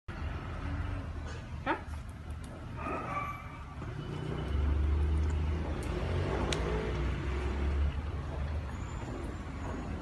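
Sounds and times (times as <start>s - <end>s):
low rumble of road traffic: 0.1s - 10.0s.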